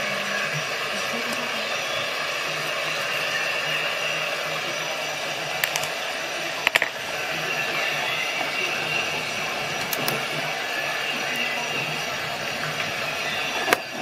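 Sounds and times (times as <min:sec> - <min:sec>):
whirring background hum: 0:00.0 - 0:14.0.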